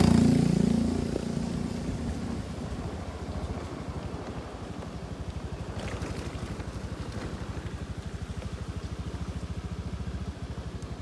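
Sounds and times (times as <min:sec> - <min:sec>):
motorcycle engine at low revs: 0:00.0 - 0:11.0
wind and road noise: 0:00.0 - 0:11.0.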